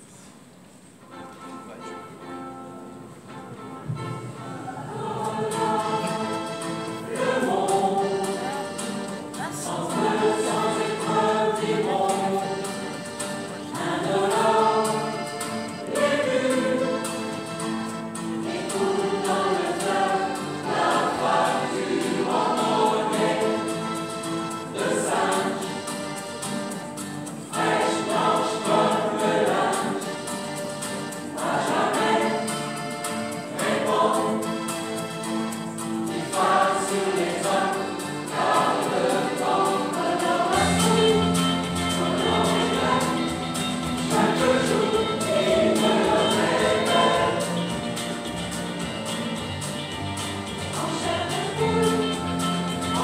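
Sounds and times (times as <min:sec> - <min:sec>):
mixed choir singing in harmony: 0:04.2 - 0:53.0.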